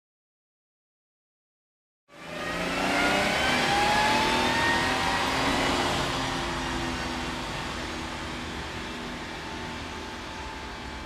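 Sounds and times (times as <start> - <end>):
engine running hard: 2.1 - 11.0.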